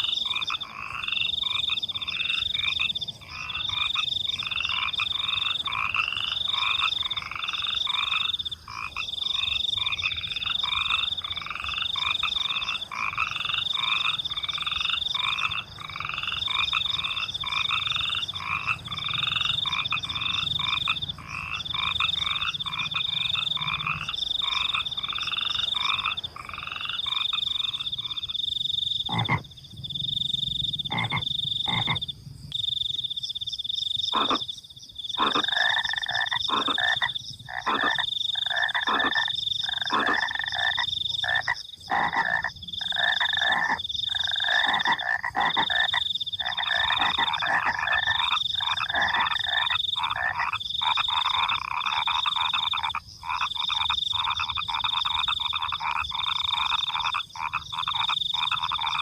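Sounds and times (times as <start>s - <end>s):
crickets trilling: 0.0s - 59.0s
frogs croaking: 0.0s - 59.0s.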